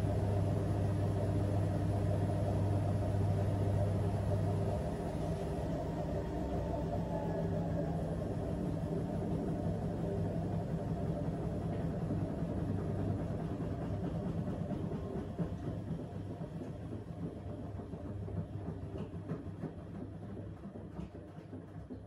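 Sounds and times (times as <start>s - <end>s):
washing machine drum spinning: 0.0s - 22.0s.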